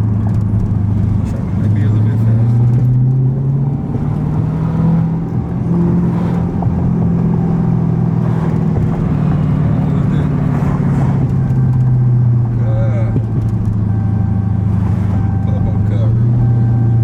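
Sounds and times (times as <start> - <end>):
car engine exhaust drone: 0.0 - 17.0.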